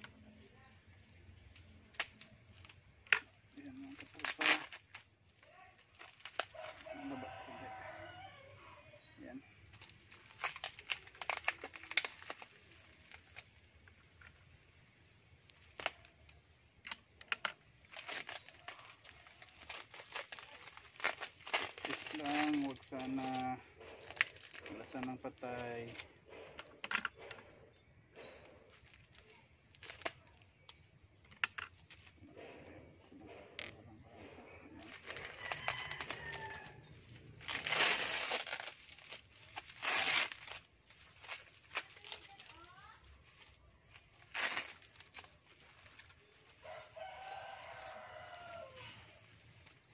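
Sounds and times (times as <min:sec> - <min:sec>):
bubble wrap crinkling and clicking: 0:00.0 - 0:08.2, 0:09.4 - 0:32.5, 0:34.7 - 0:49.9
packing tape ripping: 0:01.6 - 0:07.1, 0:09.8 - 0:14.4, 0:15.5 - 0:27.4, 0:28.7 - 0:32.2, 0:34.8 - 0:49.9.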